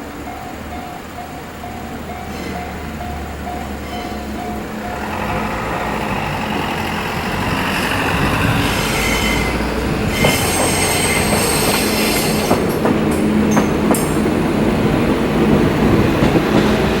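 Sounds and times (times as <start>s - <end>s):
wheels clacking over rail joints: 0.0s - 17.0s
steel wheels squealing: 0.2s - 14.3s.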